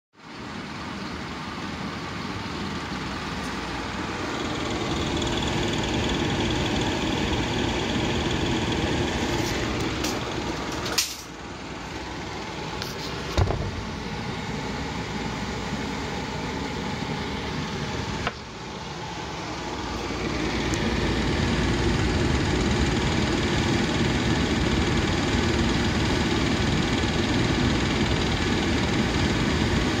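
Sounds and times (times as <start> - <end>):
fan motor humming and rushing: 0.2 - 30.0.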